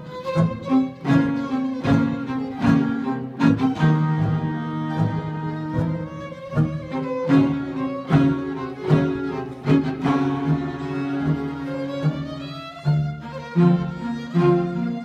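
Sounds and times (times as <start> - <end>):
string orchestra playing: 0.0 - 15.0.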